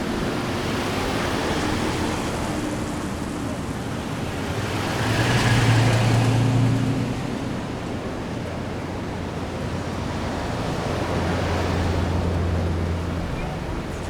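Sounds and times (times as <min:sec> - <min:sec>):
traffic noise: 0:00.0 - 0:14.0
vehicle engine humming past: 0:00.2 - 0:14.0.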